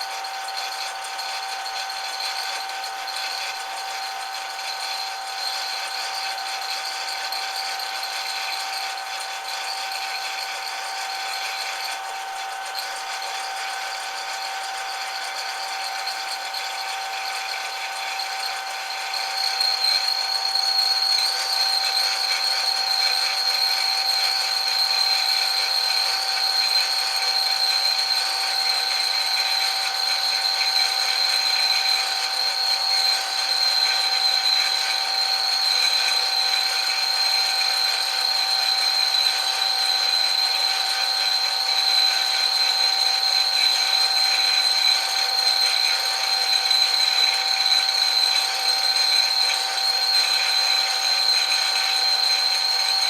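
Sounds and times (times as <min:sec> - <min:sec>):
metal lathe whining and rattling: 0:00.0 - 0:53.0.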